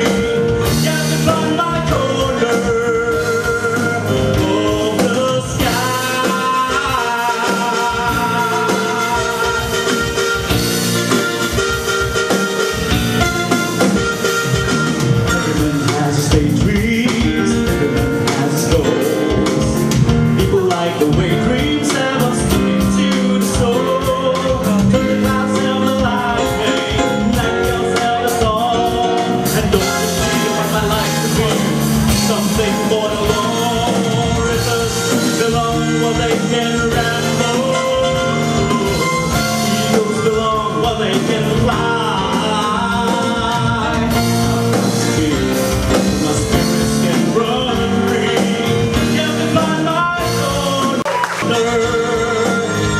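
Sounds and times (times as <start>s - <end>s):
drum kit: 0.0s - 52.9s
guitar: 0.0s - 52.9s
live blues-rock band: 0.0s - 52.9s.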